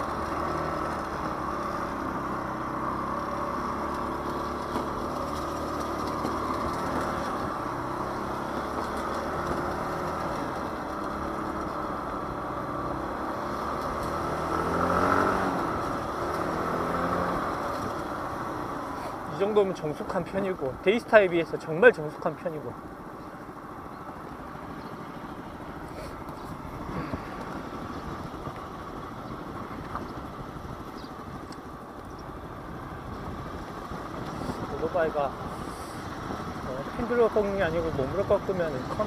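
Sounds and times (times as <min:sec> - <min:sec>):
scooter engine running: 0:00.0 - 0:39.0
wind and road noise: 0:00.0 - 0:39.0.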